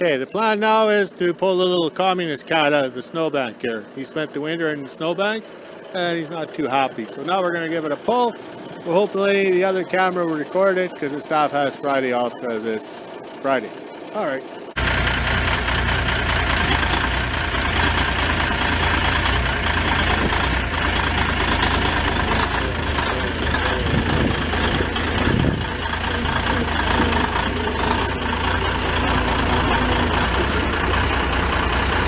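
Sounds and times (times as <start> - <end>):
diesel engine under load: 0.0 - 32.0.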